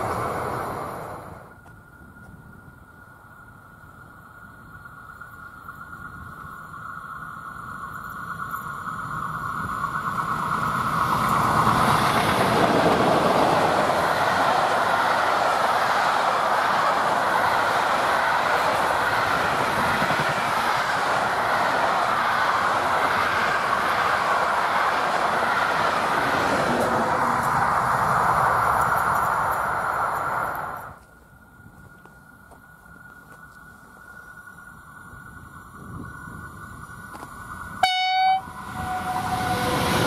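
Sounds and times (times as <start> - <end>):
train passing on rails: 0.0 - 40.0.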